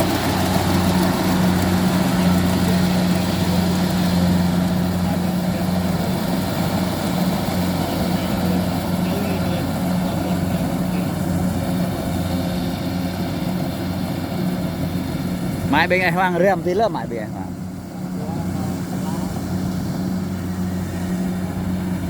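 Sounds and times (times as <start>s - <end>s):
harvester engine hum: 0.0s - 22.0s.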